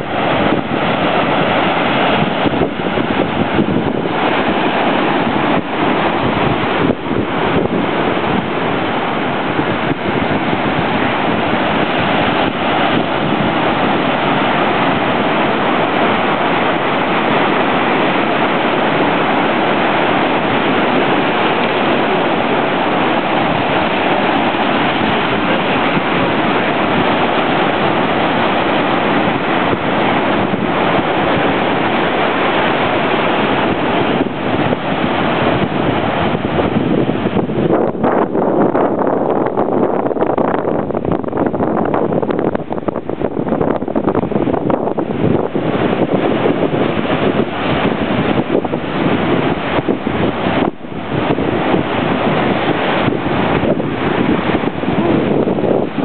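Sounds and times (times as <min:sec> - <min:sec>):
ocean surf breaking on rocks: 0:00.0 - 0:56.0.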